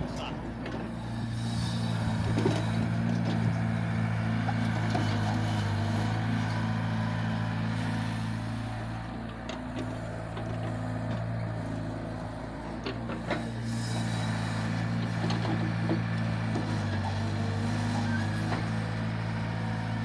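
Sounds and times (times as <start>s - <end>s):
diesel engines running: 0.0s - 20.0s
excavator digging soil: 0.0s - 20.0s.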